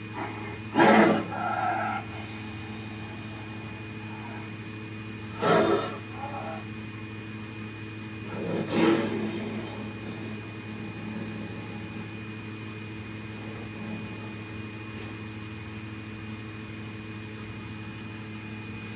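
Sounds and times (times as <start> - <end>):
high whine: 0.0 - 18.9
low hum and hiss: 0.0 - 18.9.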